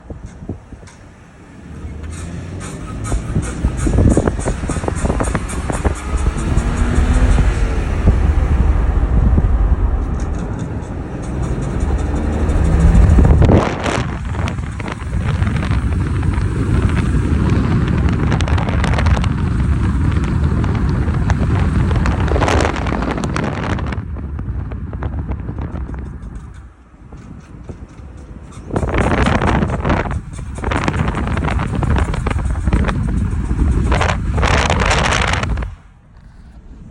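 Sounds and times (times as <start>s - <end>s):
car engine and road rumble: 0.0s - 36.9s
rushes of noise: 0.0s - 36.9s
wind buffeting microphone: 0.0s - 36.9s.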